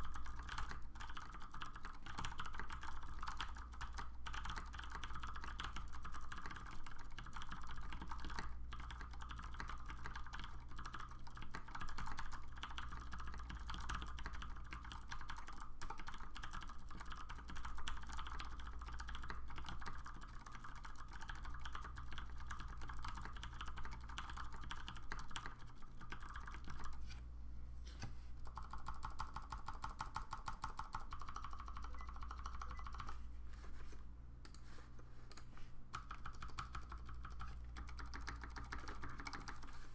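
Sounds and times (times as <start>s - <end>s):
mechanical keyboard typing: 0.0s - 27.0s, 28.4s - 33.2s, 35.3s - 39.8s.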